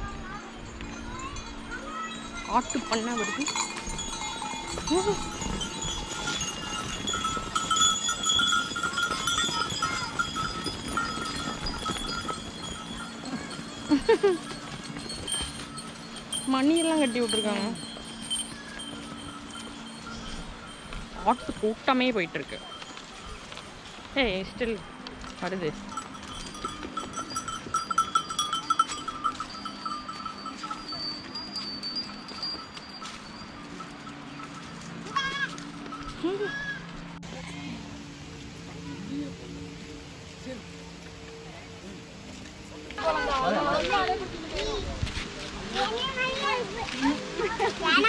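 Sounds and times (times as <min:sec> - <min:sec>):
goat bells jangling: 0:00.0 - 0:48.0.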